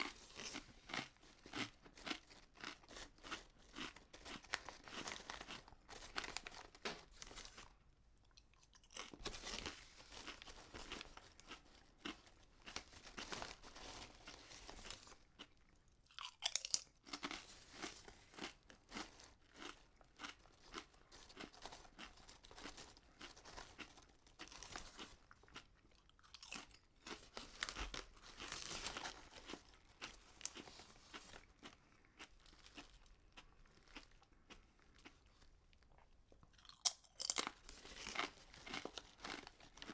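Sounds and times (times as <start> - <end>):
person chewing potato chips: 0.0 - 39.9.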